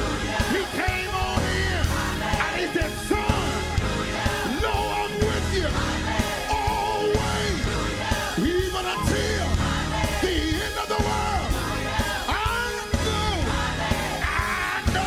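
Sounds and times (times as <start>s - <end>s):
church band with bass and drums: 0.0s - 15.0s
leader and choir singing: 0.0s - 15.0s.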